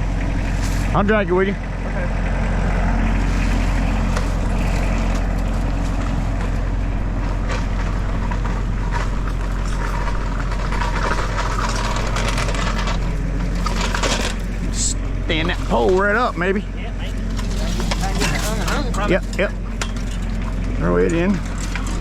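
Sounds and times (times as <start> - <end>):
tractor engine running: 0.0 - 22.0
metal fence being dragged: 2.7 - 22.0.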